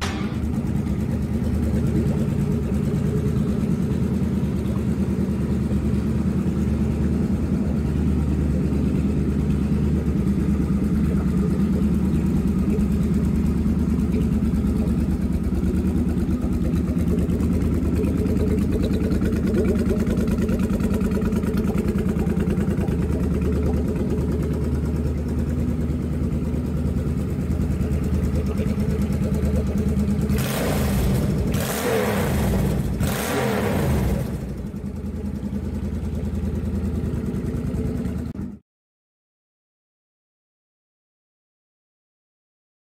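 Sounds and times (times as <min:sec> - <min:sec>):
motorcycle engine idling and revving: 0:00.0 - 0:38.6.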